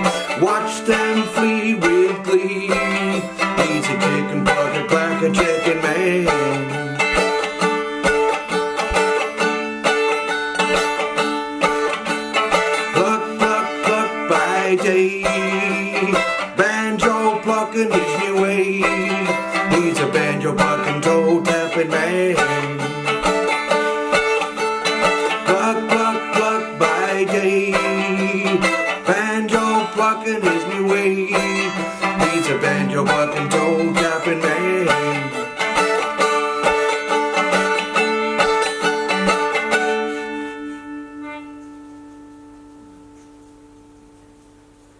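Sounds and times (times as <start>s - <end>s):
picked plucked strings: 0.0s - 44.9s.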